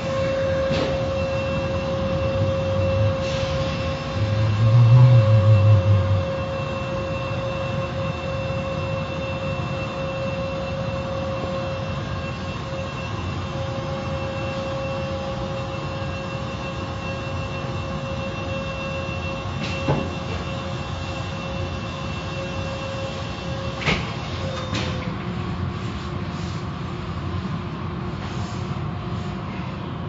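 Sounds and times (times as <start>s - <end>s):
car wash machinery running: 0.0s - 30.0s.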